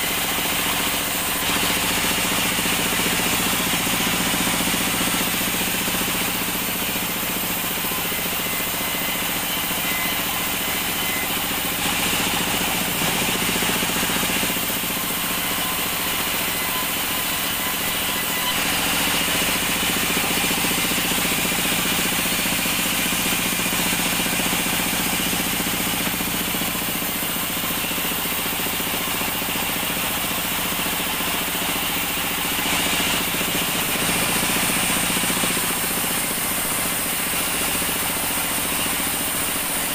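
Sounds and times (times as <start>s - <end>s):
band sawmill drone: 0.0s - 39.9s.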